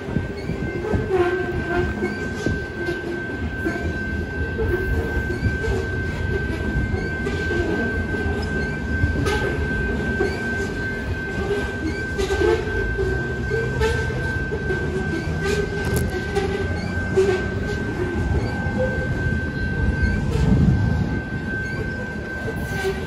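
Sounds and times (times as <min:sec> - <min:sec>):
freight train wheels rumbling on rail: 0:00.0 - 0:23.0.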